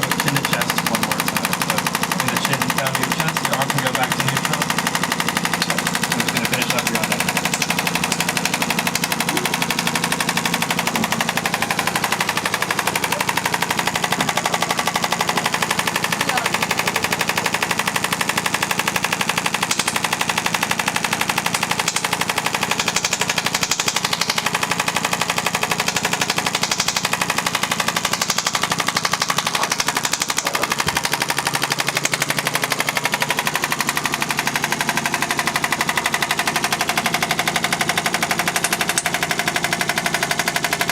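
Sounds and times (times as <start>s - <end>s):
sharp clicking pulses: 0.0s - 40.8s.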